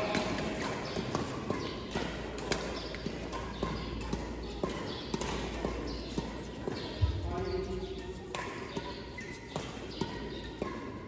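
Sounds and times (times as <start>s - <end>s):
rackets hitting shuttlecocks: 0.0s - 11.0s.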